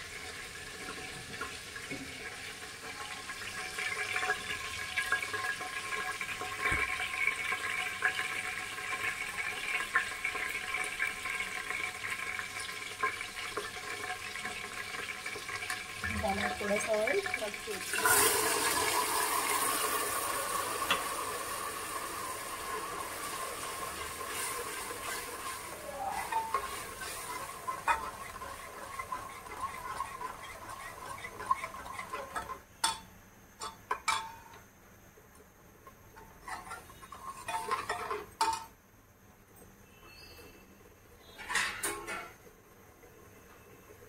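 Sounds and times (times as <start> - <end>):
oil sizzling in a pan: 0.0 - 34.6, 35.9 - 38.8.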